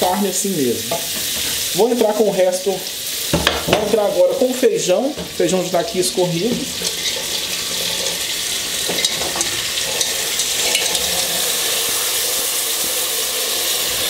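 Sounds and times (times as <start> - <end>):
food sizzling in pot: 0.0 - 14.0.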